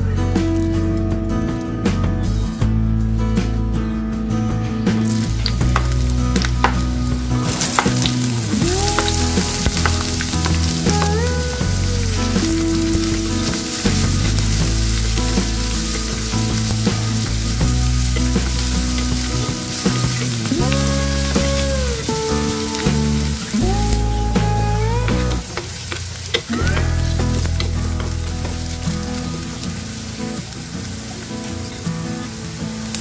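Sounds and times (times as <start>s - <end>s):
background music: 0.0s - 33.0s
onions sizzling in hot oil: 5.0s - 33.0s.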